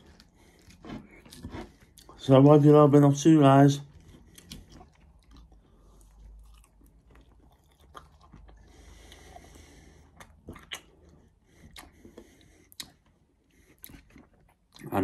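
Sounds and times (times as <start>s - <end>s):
person chewing salad: 0.0s - 2.2s, 3.9s - 14.9s.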